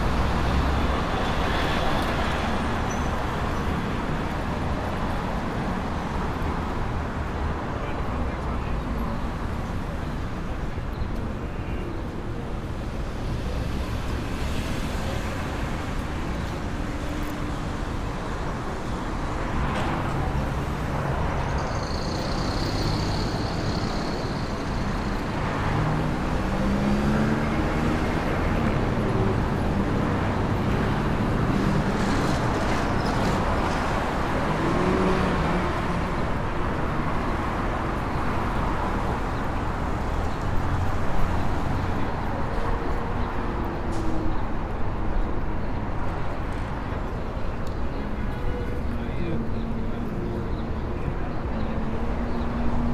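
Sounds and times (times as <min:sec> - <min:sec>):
traffic rumble: 0:00.0 - 0:52.9.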